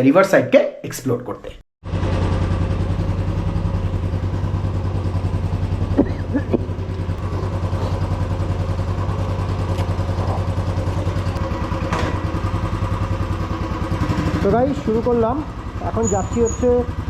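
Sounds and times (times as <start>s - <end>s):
motorcycle engine running: 1.8s - 17.0s.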